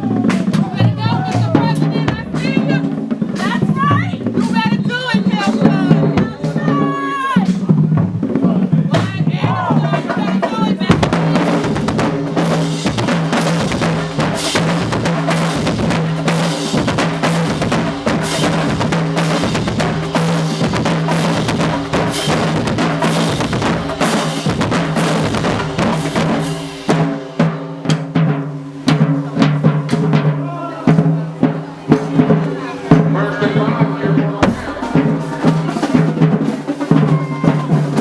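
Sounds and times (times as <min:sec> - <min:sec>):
snare and bass drums: 0:00.0 - 0:38.0.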